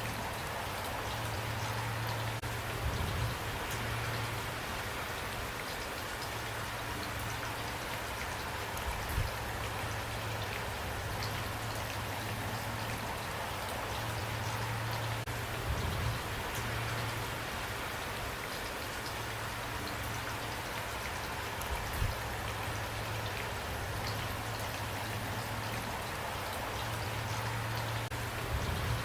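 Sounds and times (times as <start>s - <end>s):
rain hissing: 0.0s - 29.0s
raindrops ticking: 0.0s - 29.0s.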